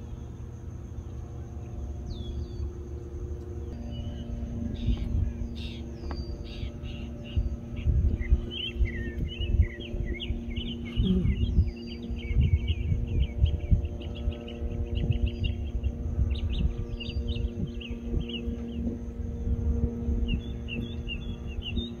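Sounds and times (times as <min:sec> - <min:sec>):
birds chirping: 0:00.0 - 0:22.0
faint steady hum: 0:00.0 - 0:22.0
low uneven rumbles: 0:00.0 - 0:22.0
harsh bird notes: 0:01.7 - 0:22.0.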